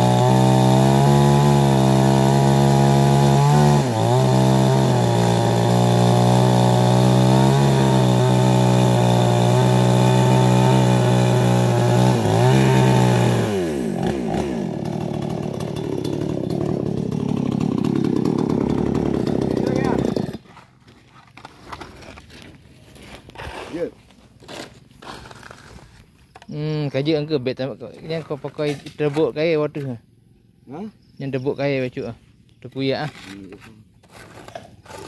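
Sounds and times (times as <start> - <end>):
chainsaw cutting wood: 0.0 - 26.4, 33.0 - 35.0.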